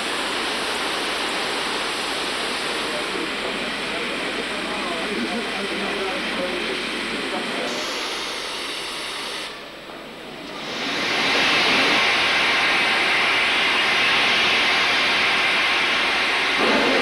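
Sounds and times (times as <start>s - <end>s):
steam hissing: 0.0s - 17.0s.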